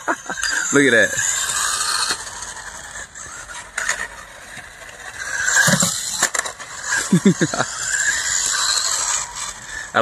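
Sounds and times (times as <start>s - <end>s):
toy truck tyres and motor hissing: 0.0s - 10.0s.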